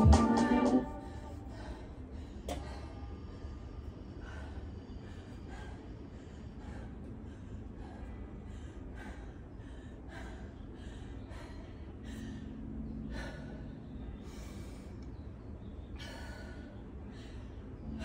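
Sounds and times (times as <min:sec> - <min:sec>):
low background rumble: 0:00.0 - 0:18.0
woman breathing hard and fast: 0:00.8 - 0:18.0.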